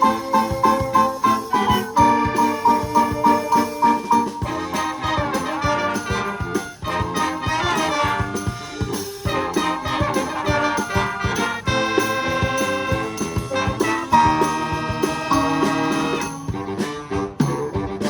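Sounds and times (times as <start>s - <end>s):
percussion beat: 0.0s - 18.0s
wind band playing: 0.0s - 18.0s.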